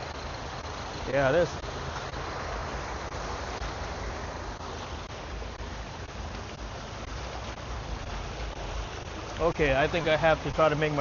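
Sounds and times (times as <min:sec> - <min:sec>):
vehicles moving through water: 0:00.0 - 0:11.0.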